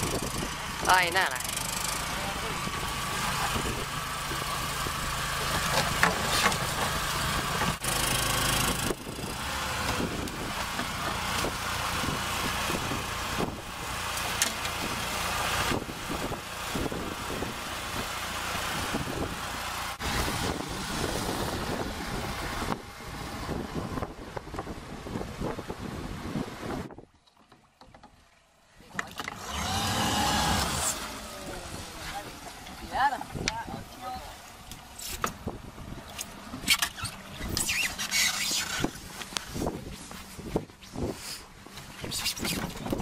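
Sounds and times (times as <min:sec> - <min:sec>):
small engine running steadily: 0:00.0 - 0:26.9, 0:27.8 - 0:37.6.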